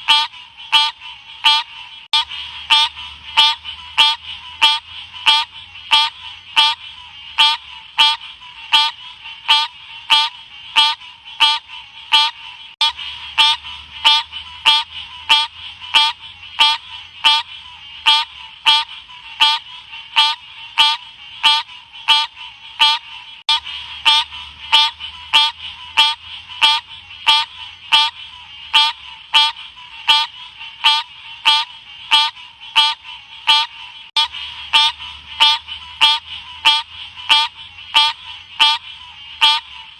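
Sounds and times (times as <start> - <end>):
frog chirping: 0.0 - 39.9.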